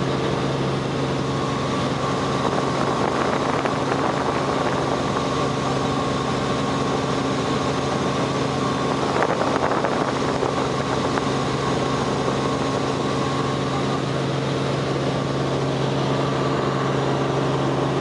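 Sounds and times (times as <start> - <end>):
constant low hum: 0.0 - 18.0
helicopter engine and rotors droning: 0.0 - 18.0.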